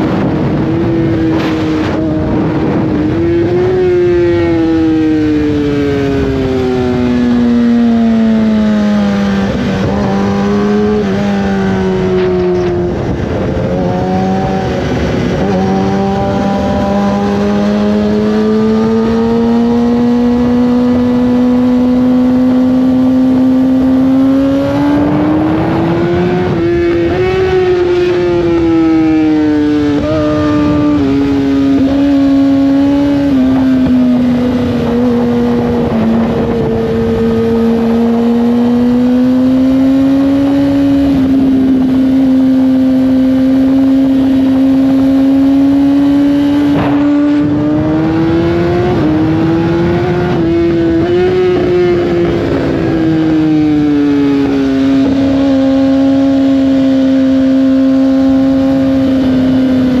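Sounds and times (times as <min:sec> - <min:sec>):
motorcycle engine cruising: 0:00.0 - 1:00.0
wind rush: 0:00.0 - 1:00.0.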